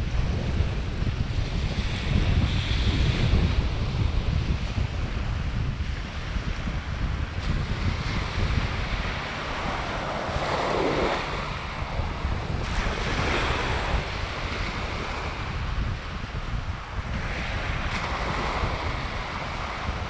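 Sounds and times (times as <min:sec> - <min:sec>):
wind rumble on microphone: 0:00.0 - 0:20.0
small waves washing up beach: 0:00.1 - 0:20.0.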